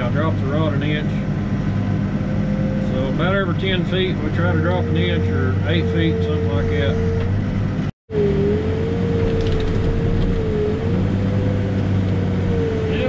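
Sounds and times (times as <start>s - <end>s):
diesel engine running: 0.0s - 13.0s
hydraulics whining: 0.0s - 13.0s.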